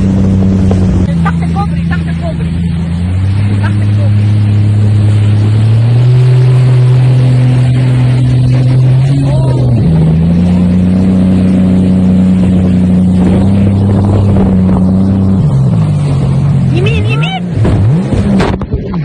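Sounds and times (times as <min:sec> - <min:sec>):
motorboat engine running hard: 0:00.0 - 0:19.0.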